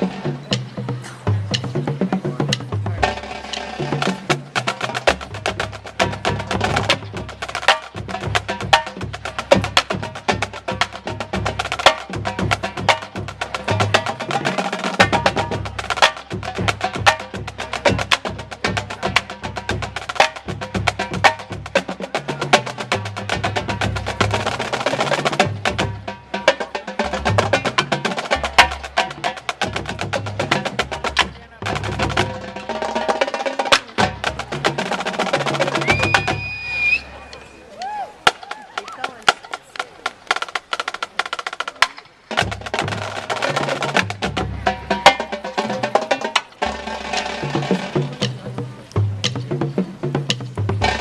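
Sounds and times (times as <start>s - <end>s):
marching drumline cadence: 0.0s - 51.0s.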